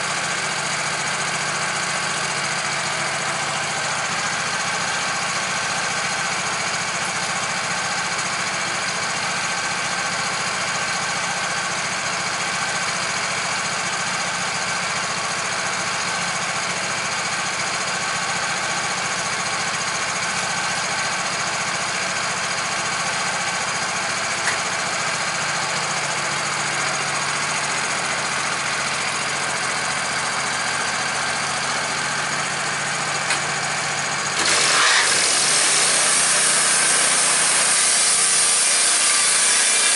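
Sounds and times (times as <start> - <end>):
motor humming steadily: 0.0 - 39.9.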